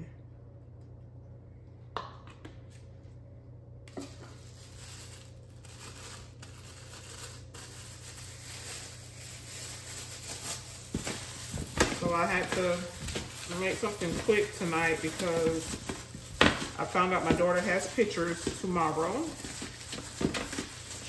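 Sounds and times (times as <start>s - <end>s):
plastic gloves crinkling: 3.9s - 21.0s.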